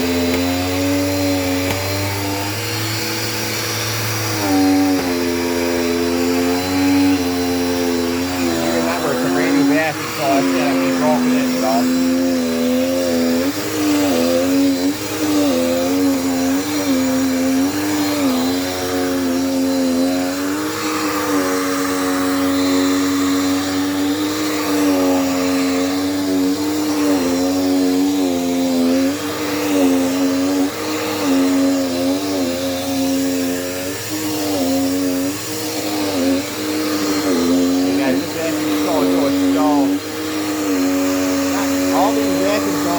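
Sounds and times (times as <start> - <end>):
vacuum cleaner motor whine: 0.0 - 42.9.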